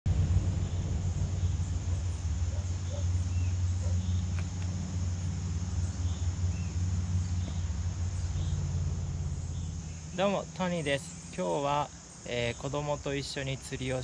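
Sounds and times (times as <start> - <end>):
steady low rumble: 0.0 - 14.0
insects buzzing: 0.1 - 14.0.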